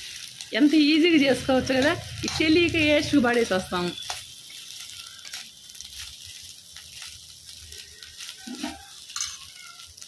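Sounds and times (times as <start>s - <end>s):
faint steady sizzle: 0.0s - 10.0s
steel spoon scraping: 1.7s - 10.0s.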